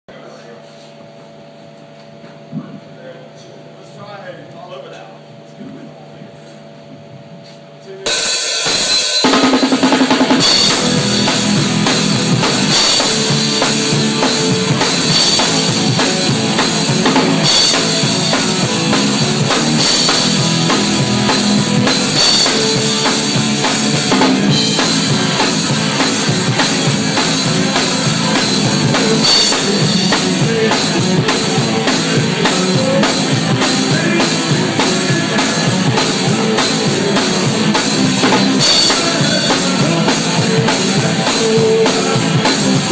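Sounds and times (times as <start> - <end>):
drum kit played loudly: 7.9 - 42.9.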